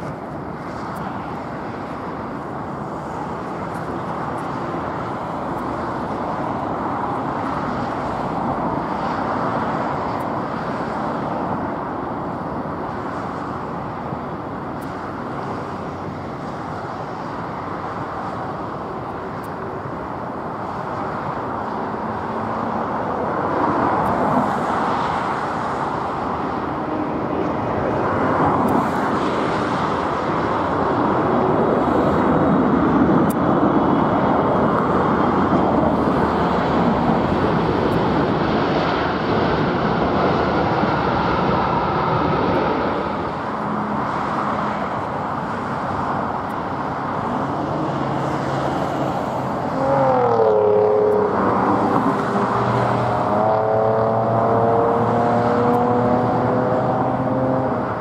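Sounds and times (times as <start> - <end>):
jet airliner roar: 0.0 - 58.0.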